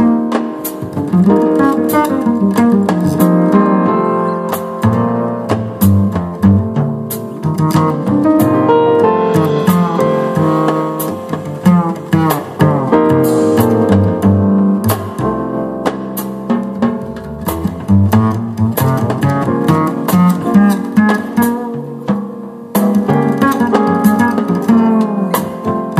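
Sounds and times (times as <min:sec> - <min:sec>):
bass and drums: 0:00.0 - 0:25.9
plucked guitar: 0:00.0 - 0:25.9.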